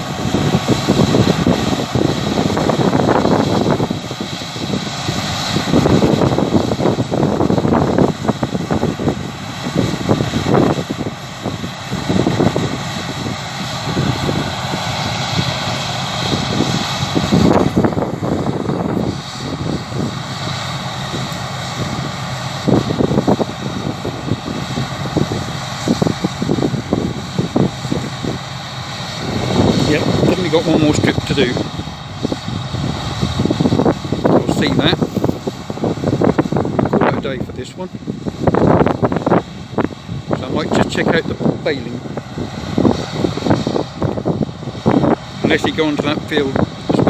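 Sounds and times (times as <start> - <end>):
combine harvester engine drone: 0.0 - 47.0
wind rumble on microphone: 0.0 - 47.0.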